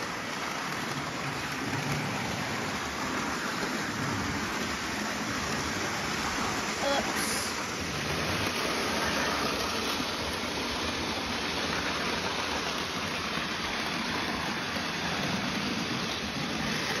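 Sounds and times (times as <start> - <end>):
model train motors whirring: 0.0 - 17.0
model train wheels rolling: 0.0 - 17.0.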